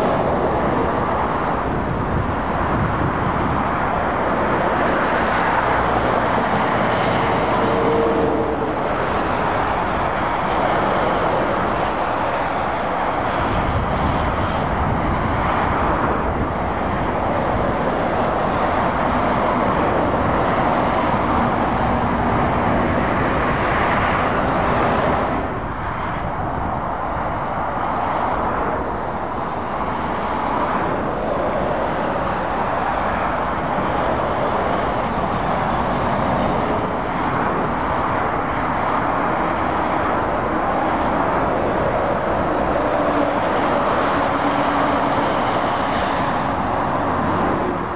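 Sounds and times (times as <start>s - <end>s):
cars passing: 0.0s - 47.9s
heavy lorries passing: 0.0s - 47.9s.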